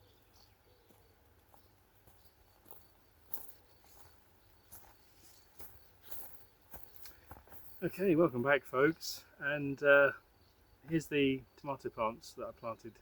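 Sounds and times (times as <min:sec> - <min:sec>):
crickets chirping: 0:00.9 - 0:13.0.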